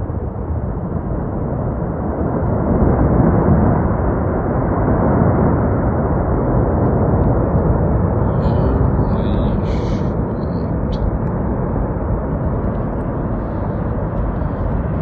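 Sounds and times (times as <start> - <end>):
avalanche rumbling: 0.1 - 15.0.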